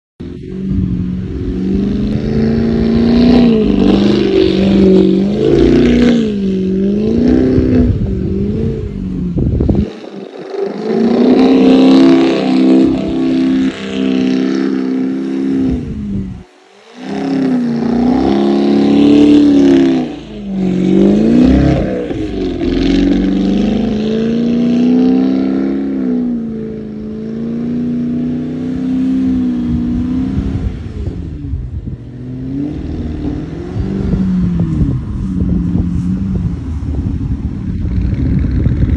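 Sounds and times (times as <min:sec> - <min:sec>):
car engine revving: 0:00.2 - 0:38.9.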